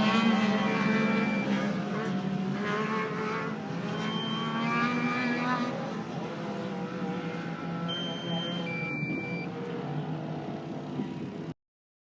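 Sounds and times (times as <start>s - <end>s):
race vehicle engines revving: 0.0s - 11.5s.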